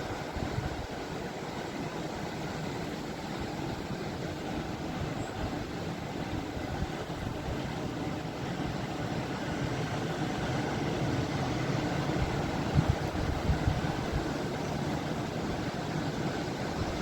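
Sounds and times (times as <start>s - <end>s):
ocean waves washing: 0.0s - 17.0s.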